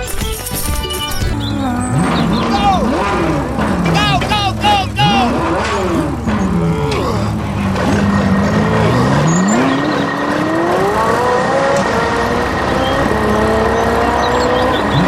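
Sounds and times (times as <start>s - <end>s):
vehicle engine accelerating: 1.3s - 15.0s.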